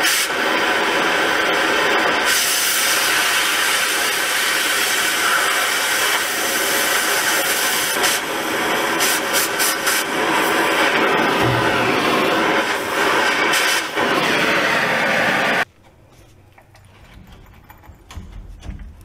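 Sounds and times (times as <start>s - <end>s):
cutting torch hissing: 0.0s - 15.7s.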